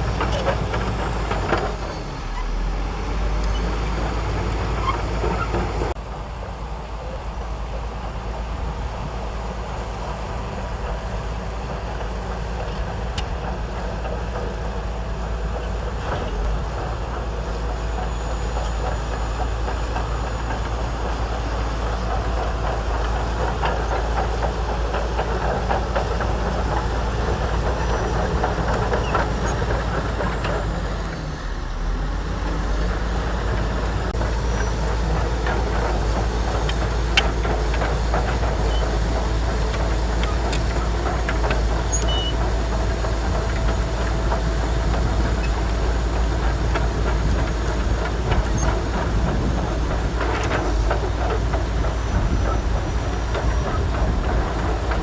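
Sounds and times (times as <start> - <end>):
bulldozer diesel engine running: 0.0 - 55.0
steel tracks clattering: 3.1 - 31.4, 32.0 - 55.0.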